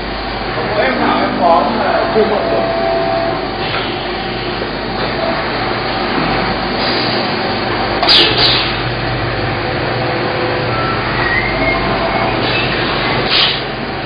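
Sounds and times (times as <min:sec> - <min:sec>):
factory machinery din: 0:00.0 - 0:14.0.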